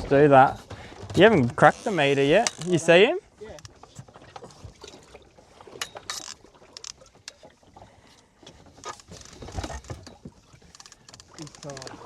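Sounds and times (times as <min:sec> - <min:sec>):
water splashing against boat hull: 0:00.0 - 0:12.0.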